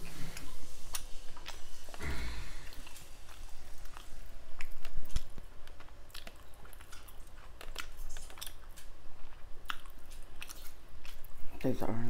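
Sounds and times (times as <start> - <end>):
person chewing food: 0.0 - 11.8.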